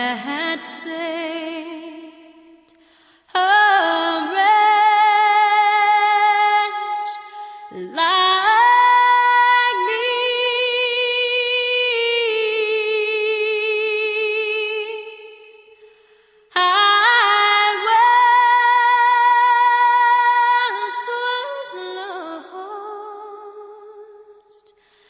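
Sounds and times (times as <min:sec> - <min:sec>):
woman singing held notes with vibrato: 0:00.0 - 0:02.6, 0:03.3 - 0:24.7.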